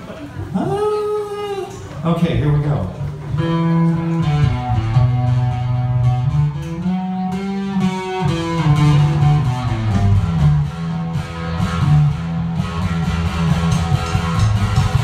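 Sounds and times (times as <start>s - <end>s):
electric bass guitar notes: 3.0s - 15.0s.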